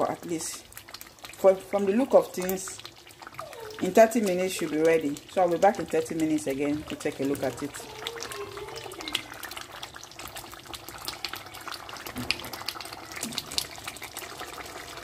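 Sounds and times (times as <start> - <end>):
sauce bubbles popping: 0.0 - 15.0.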